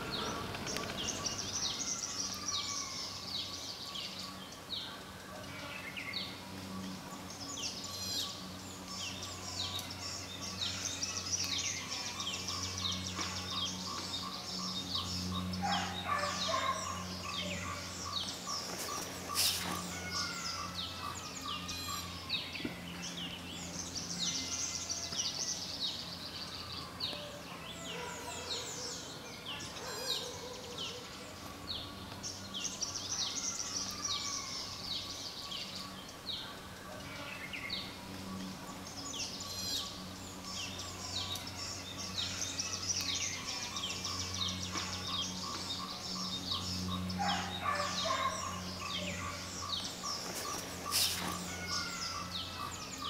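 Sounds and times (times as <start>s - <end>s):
birds chirping and calling: 0.0s - 53.0s
steady low hum: 0.0s - 53.0s.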